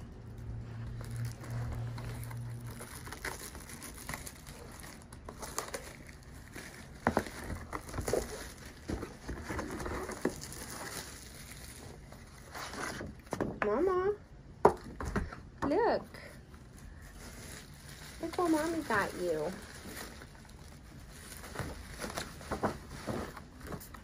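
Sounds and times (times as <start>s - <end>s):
packaging rustling and crinkling: 0.3s - 13.5s, 16.4s - 24.0s.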